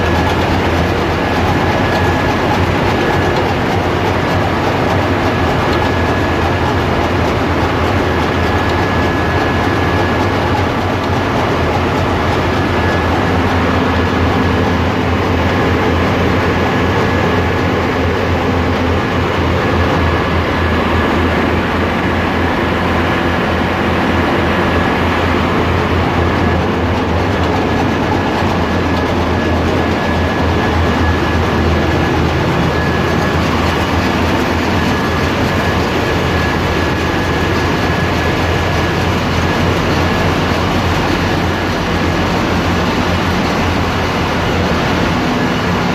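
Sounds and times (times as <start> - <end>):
engine room machinery running: 0.0 - 45.9.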